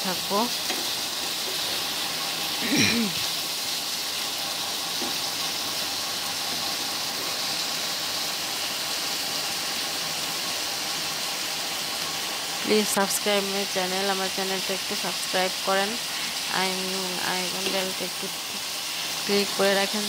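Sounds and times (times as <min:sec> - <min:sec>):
food sizzling in frying pan: 0:00.0 - 0:20.0.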